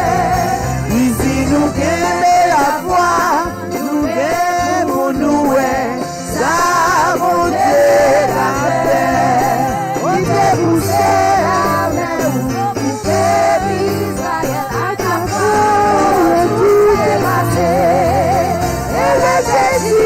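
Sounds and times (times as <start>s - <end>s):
band accompaniment with bass: 0.0s - 20.0s
voices singing with vibrato: 0.0s - 20.0s.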